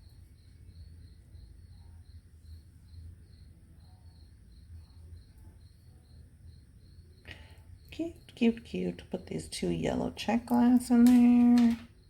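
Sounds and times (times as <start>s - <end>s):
cricket chirping: 0.0s - 12.0s
low steady hum: 0.0s - 12.0s.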